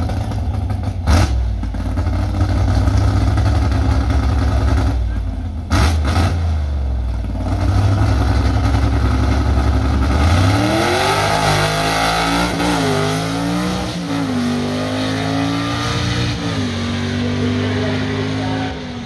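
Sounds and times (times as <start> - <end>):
drag car engine accelerating: 0.0 - 19.0.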